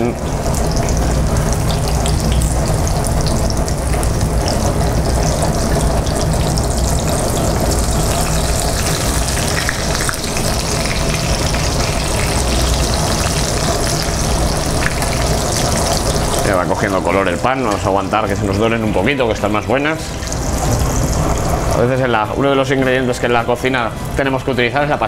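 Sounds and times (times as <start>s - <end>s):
beans sizzling in hot oil: 0.0s - 22.0s.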